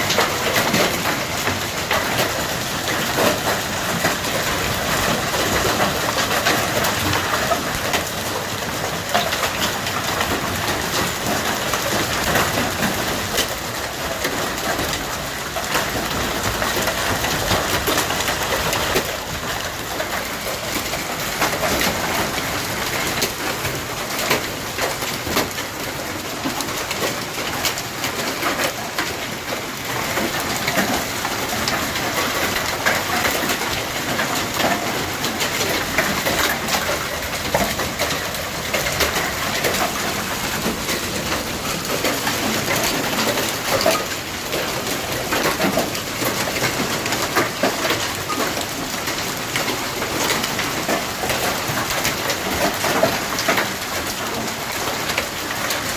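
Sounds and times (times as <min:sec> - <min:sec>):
hailstones clattering: 0:00.0 - 0:55.9.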